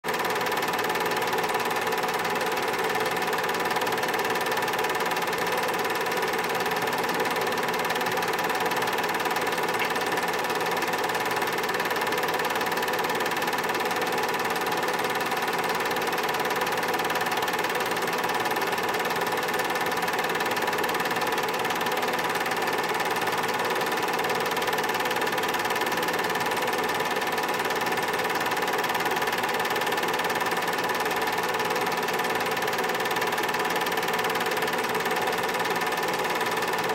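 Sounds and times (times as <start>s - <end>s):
film projector whirring: 0.0s - 36.9s.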